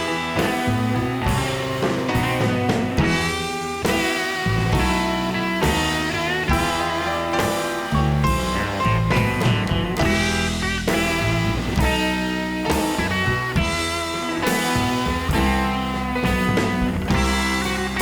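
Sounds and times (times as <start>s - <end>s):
rock instrumental music: 0.0s - 18.0s.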